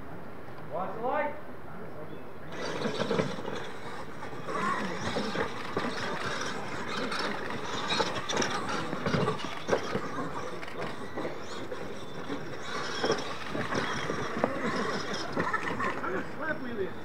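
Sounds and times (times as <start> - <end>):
toy truck motors whirring: 2.5 - 16.7
tyres scrabbling on dirt: 2.5 - 17.0.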